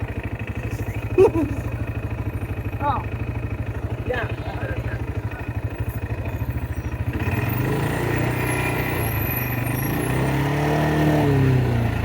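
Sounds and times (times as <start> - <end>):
atv engine idling and revving: 0.0 - 12.0.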